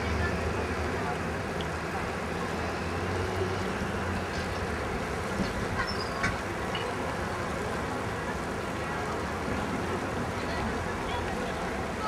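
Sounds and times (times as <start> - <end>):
distant traffic hum: 0.0 - 12.0
people in open square: 0.0 - 12.0.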